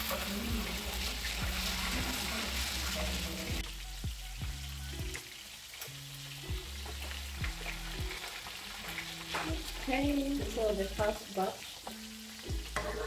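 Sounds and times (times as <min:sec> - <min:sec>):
background music: 0:00.0 - 0:13.0
oil sizzling in a pan: 0:00.0 - 0:13.0.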